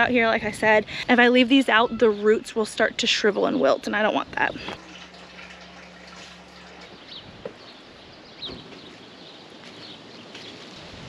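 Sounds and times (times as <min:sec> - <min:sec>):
low steady hum: 0:00.0 - 0:09.6.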